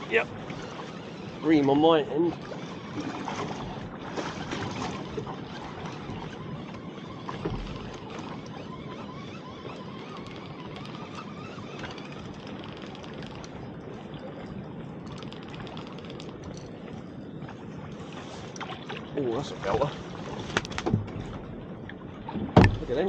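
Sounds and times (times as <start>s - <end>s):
sea water washing around boat: 0.0s - 23.0s.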